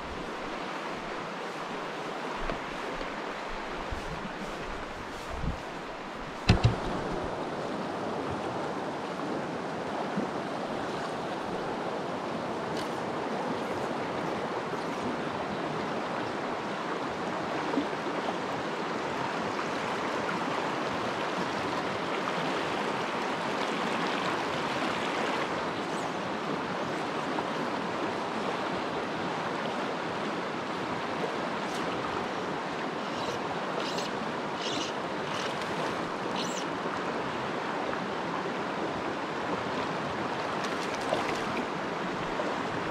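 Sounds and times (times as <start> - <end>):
stream rushing over riffles: 0.0 - 42.9.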